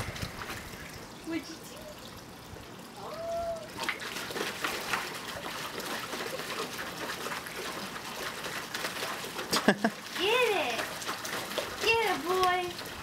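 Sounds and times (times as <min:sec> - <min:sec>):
puppy splashing water: 0:00.0 - 0:13.0.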